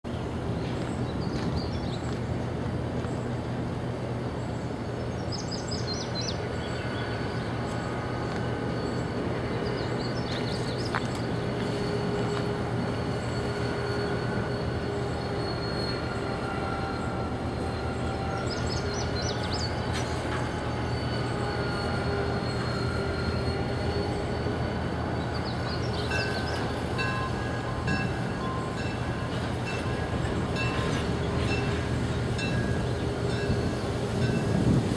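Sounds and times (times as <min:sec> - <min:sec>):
diesel locomotive engine running: 0:00.1 - 0:34.9
train wheels squealing on rails: 0:04.6 - 0:34.9.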